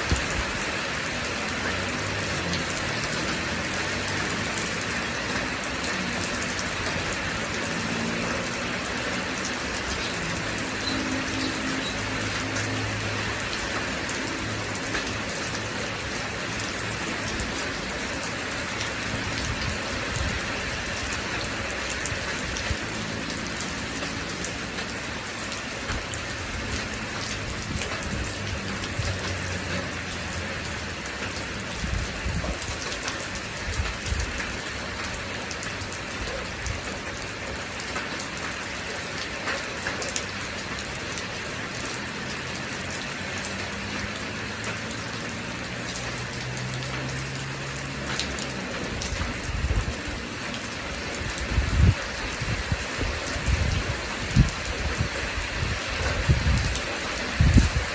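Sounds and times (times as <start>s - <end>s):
raindrops ticking close by: 0.0s - 57.9s
steady rain falling: 0.0s - 57.9s.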